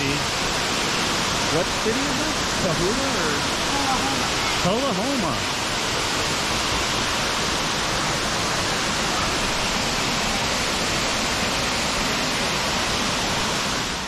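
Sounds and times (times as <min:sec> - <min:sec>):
waterfall rushing over rocks: 0:00.0 - 0:14.0.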